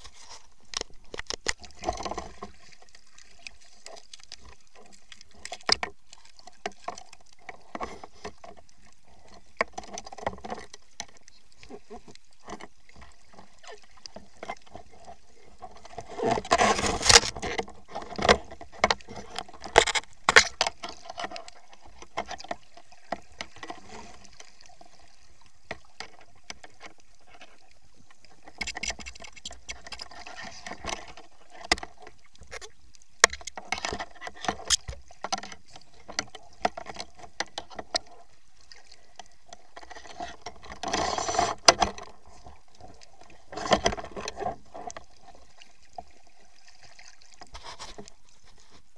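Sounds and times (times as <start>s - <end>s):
rush of water: 0.0s - 48.9s
underwater clicks and crackles: 0.0s - 48.9s.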